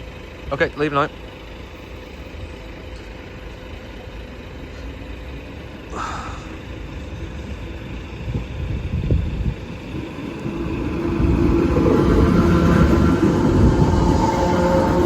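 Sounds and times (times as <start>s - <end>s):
electric train low rumble: 0.0s - 15.0s.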